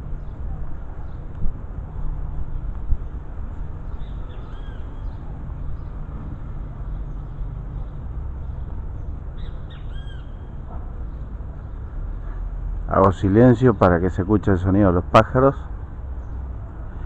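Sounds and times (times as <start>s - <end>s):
steady low rumble: 0.0s - 16.0s
birds calling: 3.0s - 17.0s.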